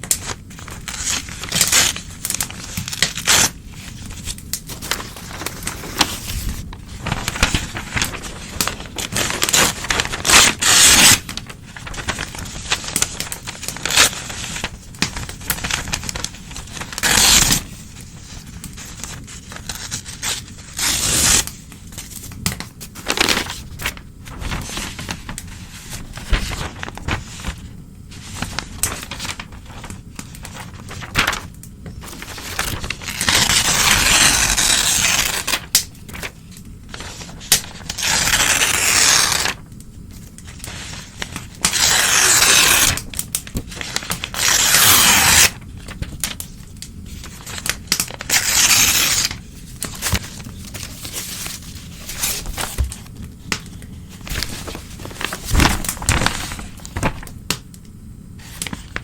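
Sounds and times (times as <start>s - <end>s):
paper rustling and crinkling: 0.0s - 57.6s, 58.4s - 59.0s
newspaper tearing: 0.2s - 39.6s, 40.5s - 46.4s, 47.1s - 57.3s.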